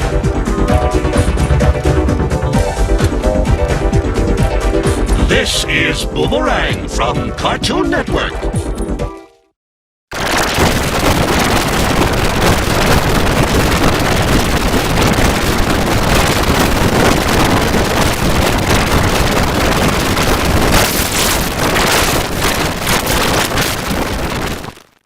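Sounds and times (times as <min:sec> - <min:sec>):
harsh distorted static noise: 0:00.0 - 0:05.9, 0:10.1 - 0:25.0.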